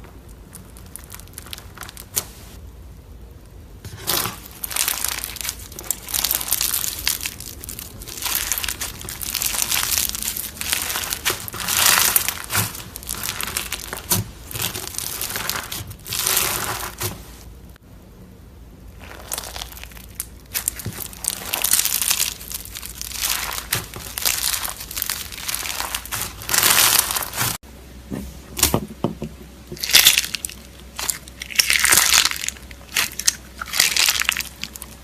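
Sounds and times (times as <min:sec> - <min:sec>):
crunchy slime crackling: 0:00.0 - 0:02.6, 0:03.8 - 0:17.7, 0:18.8 - 0:27.6, 0:29.7 - 0:35.0.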